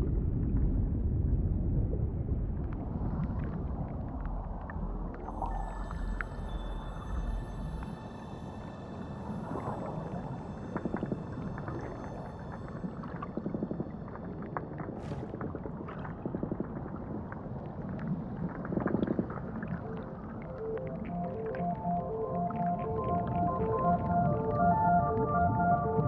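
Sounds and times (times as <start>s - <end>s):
low rumbling underwater noise: 0.0s - 25.0s.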